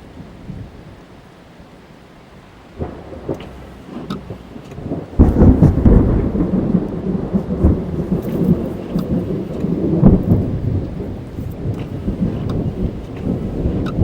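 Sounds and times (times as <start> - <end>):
rain on a car: 0.0 - 14.0
thunder clap and rumble: 2.7 - 14.0.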